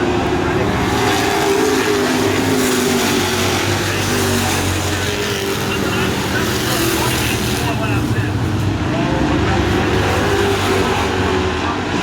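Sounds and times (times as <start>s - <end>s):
race truck engines running: 0.0s - 12.0s.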